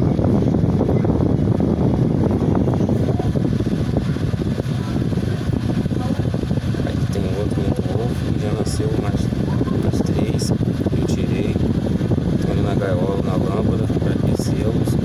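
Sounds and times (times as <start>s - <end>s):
cooler fan whooshing: 0.0s - 15.0s.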